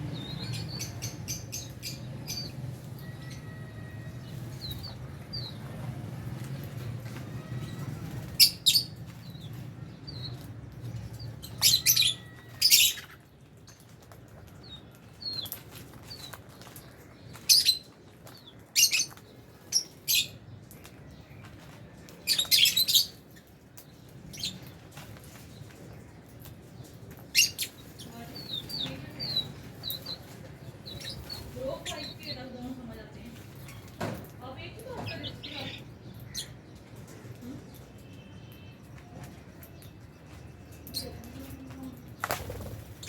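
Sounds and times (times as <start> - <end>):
lovebirds chirping: 0.0 - 43.0.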